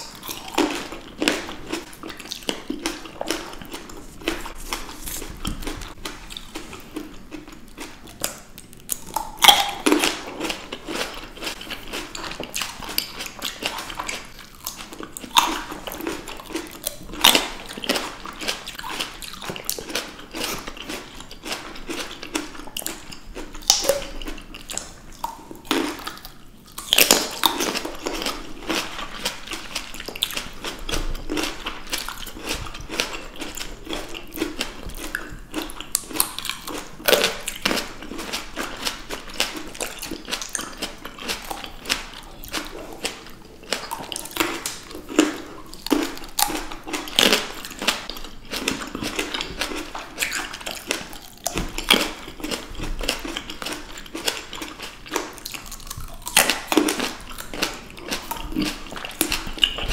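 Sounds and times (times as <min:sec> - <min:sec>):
grapes crunching and popping: 0:00.0 - 0:59.9
wet chewing: 0:00.0 - 0:59.9.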